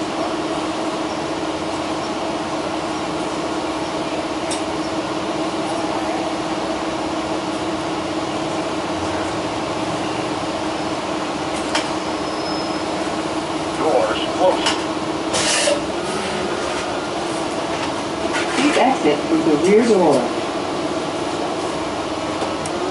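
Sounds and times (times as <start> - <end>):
bus engine idling: 0.0 - 22.9.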